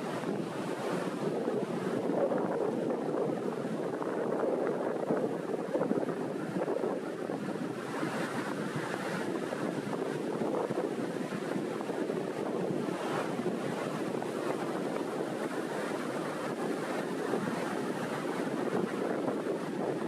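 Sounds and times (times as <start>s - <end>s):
sea waves breaking on shore: 0.0s - 20.0s
wind buffeting microphone: 0.0s - 20.0s.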